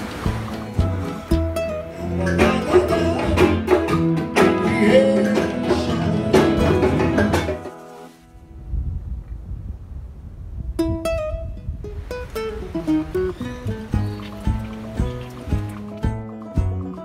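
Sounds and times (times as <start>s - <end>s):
guitar music with plucked strings: 0.0s - 8.0s, 10.8s - 17.0s.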